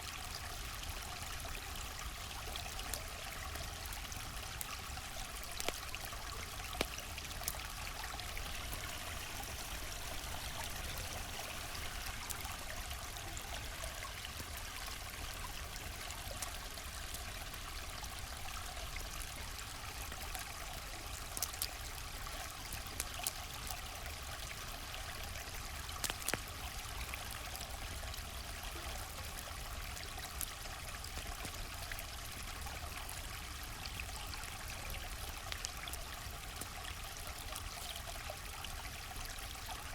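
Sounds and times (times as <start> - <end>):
campfire crackles: 0.0 - 39.9
river water flowing: 0.0 - 39.9.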